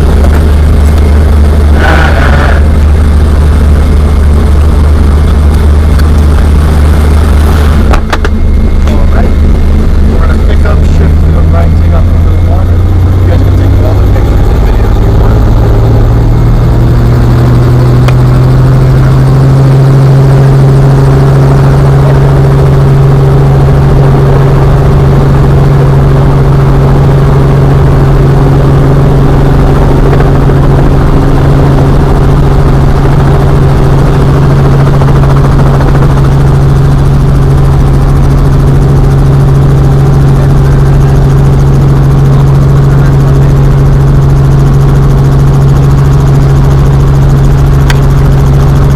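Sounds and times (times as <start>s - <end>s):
helicopter rotor drone: 0.0s - 48.9s.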